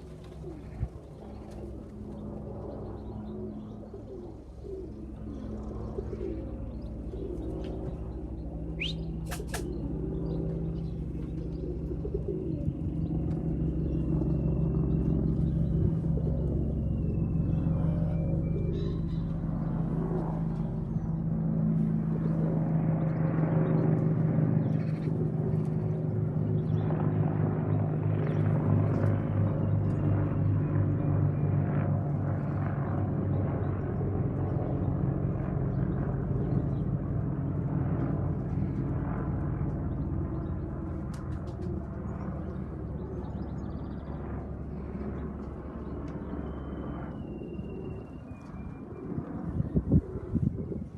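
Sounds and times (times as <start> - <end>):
low engine drone: 0.0 - 50.9.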